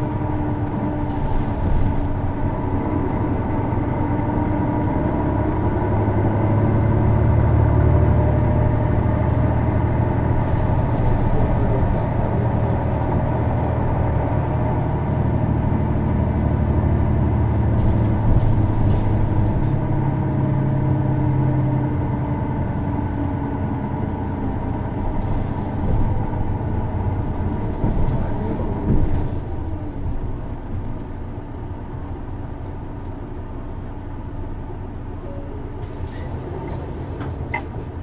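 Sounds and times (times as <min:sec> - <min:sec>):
bus diesel engine drone: 0:00.0 - 0:38.0.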